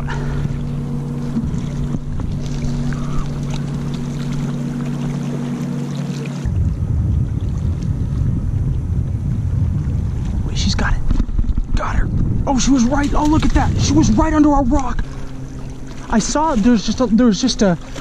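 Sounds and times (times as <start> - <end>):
motorboat engine humming: 0.0 - 18.0
wind rumbling on microphone: 0.0 - 18.0.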